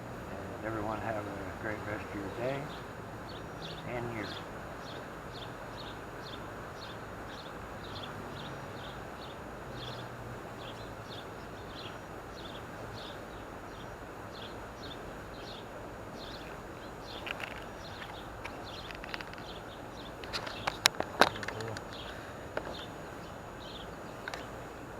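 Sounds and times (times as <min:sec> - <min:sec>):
steady outdoor noise: 0:00.0 - 0:24.9.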